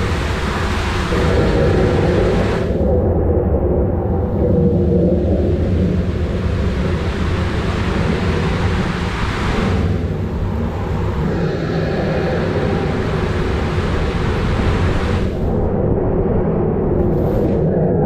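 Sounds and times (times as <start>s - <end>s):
water rushing through a tube slide: 0.0s - 3.0s, 4.2s - 15.6s
low rumble of thunderstorm effect: 0.0s - 18.0s.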